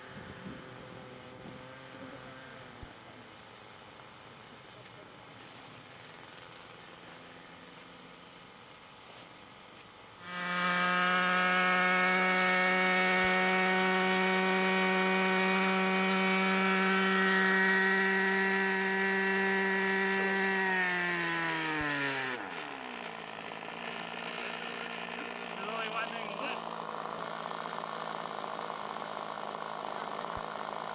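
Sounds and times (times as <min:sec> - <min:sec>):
model airplane engine whining: 0:00.0 - 0:30.9.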